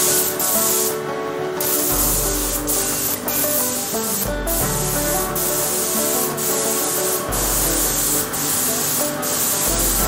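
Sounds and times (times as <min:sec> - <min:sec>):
spray gun hissing: 0:00.0 - 0:01.0, 0:01.6 - 0:10.0
background music: 0:00.0 - 0:10.0.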